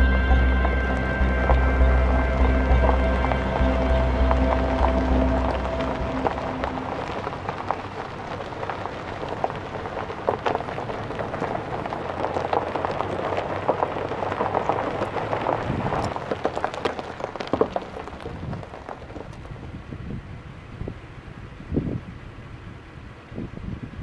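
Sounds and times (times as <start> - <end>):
wheels crunching on gravel: 0.0 - 20.3.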